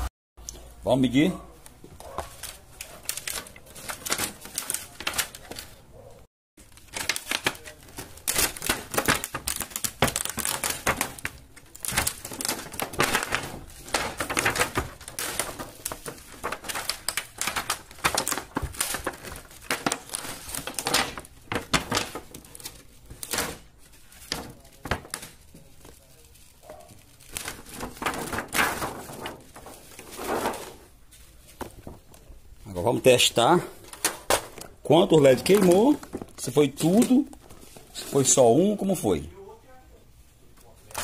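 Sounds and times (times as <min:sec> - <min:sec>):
plastic sheet crinkling: 0:01.5 - 0:05.9, 0:06.6 - 0:39.5, 0:40.4 - 0:41.0.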